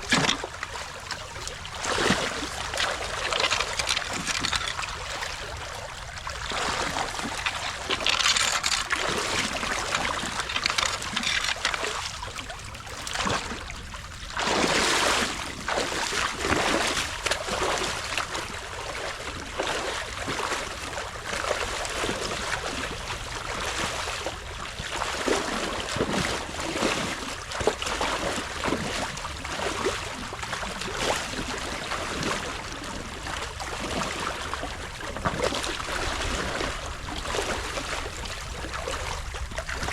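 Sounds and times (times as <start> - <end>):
water splashes: 0.0 - 39.9
water trickling and gurgling: 0.0 - 39.9.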